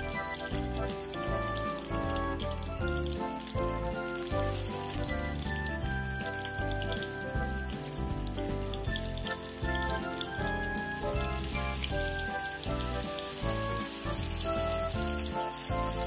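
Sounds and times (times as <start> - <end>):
background music: 0.0 - 16.0
food deep-frying in oil: 0.0 - 16.0.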